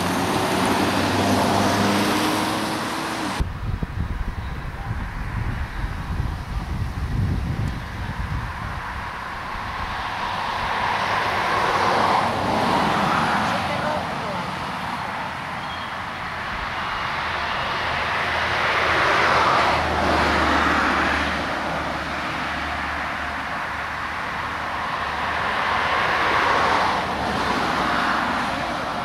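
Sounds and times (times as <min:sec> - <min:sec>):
cars passing on asphalt road: 0:00.0 - 0:29.0.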